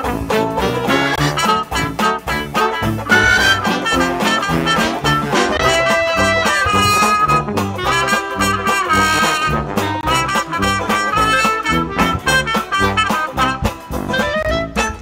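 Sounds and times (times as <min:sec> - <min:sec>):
swing jazz with brass: 0:00.0 - 0:15.0.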